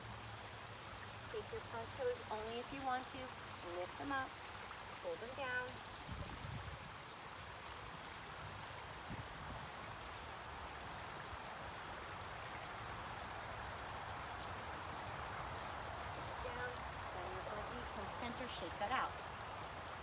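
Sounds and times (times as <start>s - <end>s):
water running in pond: 0.0s - 20.0s.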